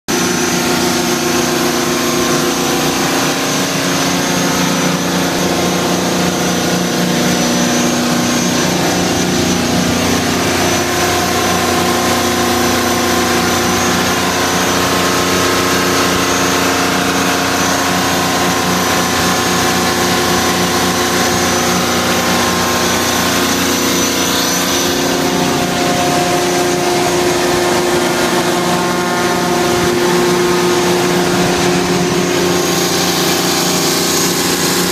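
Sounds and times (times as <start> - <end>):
diesel generator droning: 0.1 - 34.9.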